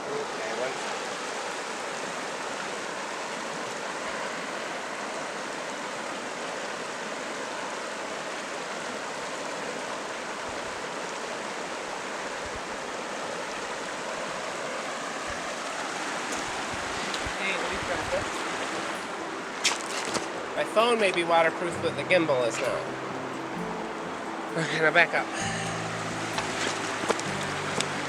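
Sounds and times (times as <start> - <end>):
fast-flowing water rushing: 0.0 - 28.0.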